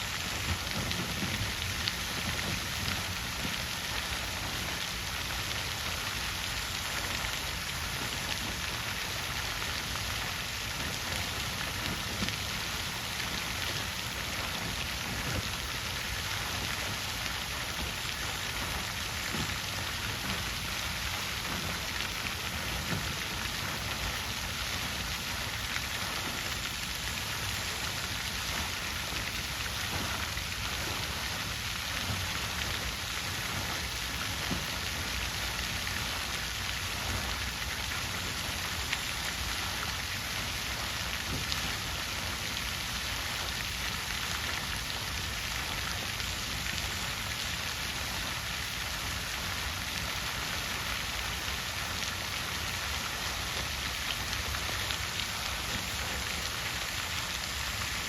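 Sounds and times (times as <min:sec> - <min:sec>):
water fountain splashing: 0:00.0 - 0:58.0.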